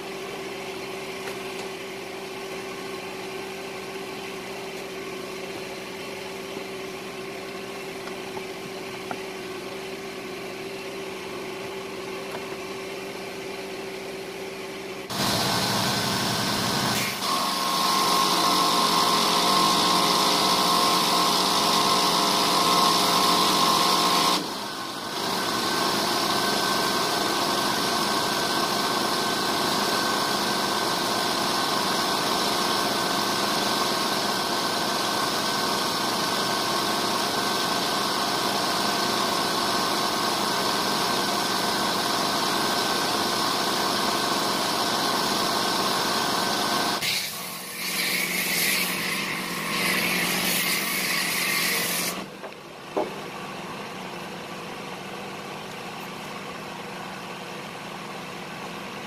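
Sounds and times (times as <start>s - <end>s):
pressure washer running: 0.0s - 53.3s.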